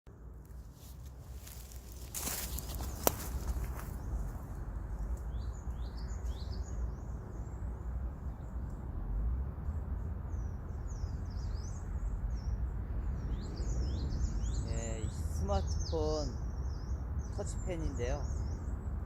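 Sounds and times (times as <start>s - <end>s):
small birds chirping: 0.1s - 19.0s
steady low rumble: 0.1s - 19.0s.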